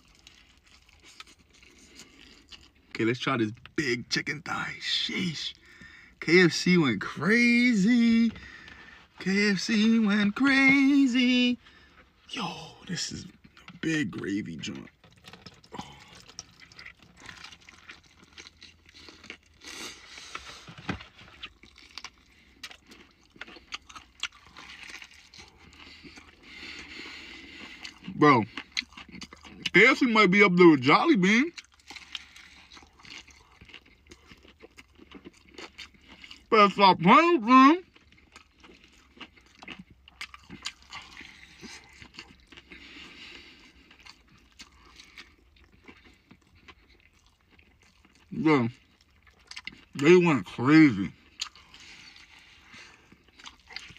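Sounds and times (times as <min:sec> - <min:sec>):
chewing crunches: 0:00.0 - 0:03.8, 0:11.7 - 0:30.1, 0:31.4 - 0:36.8, 0:37.8 - 0:53.9.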